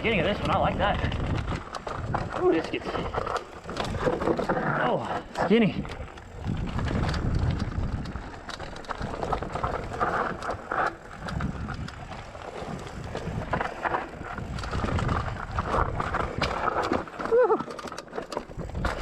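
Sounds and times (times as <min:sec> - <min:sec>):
bike rattles and clicks: 0:00.0 - 0:19.0
tyres rumbling over dirt and rocks: 0:00.0 - 0:19.0.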